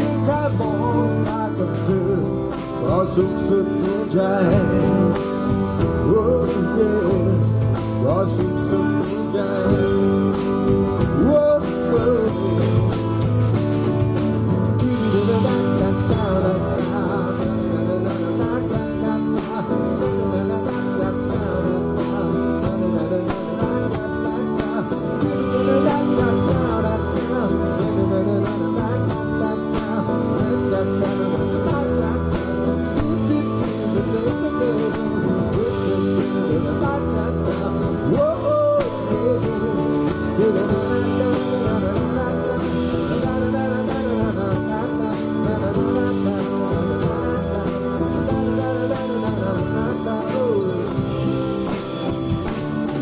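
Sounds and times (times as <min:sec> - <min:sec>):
rock guitar: 0:00.0 - 0:53.0
steady drum beat: 0:00.0 - 0:53.0.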